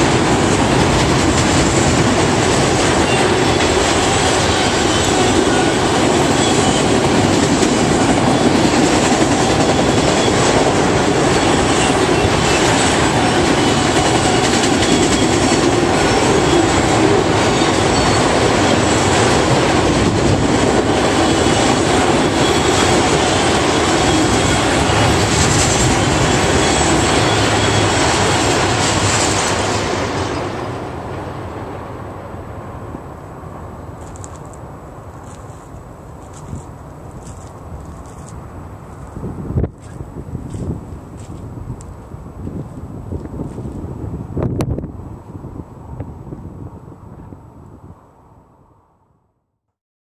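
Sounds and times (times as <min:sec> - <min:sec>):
train wheels rumbling on rails: 0:00.0 - 0:47.8.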